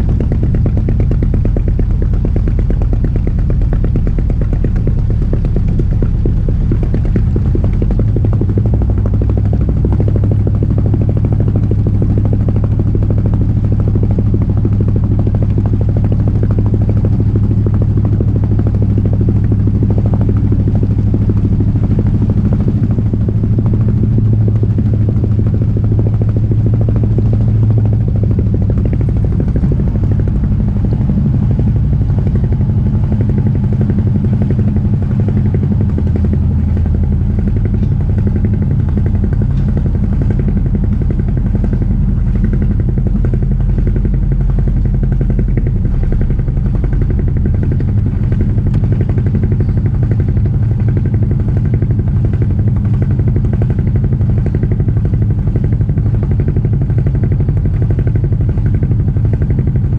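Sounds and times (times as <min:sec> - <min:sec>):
boat engine throbbing: 0:00.0 - 0:59.9.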